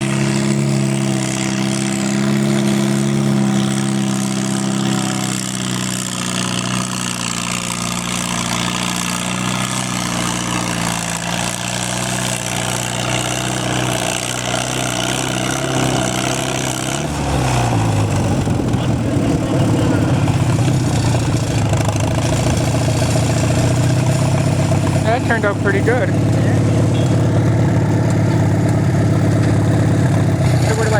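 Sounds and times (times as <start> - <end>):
tractor engine running under load: 0.0 - 30.9.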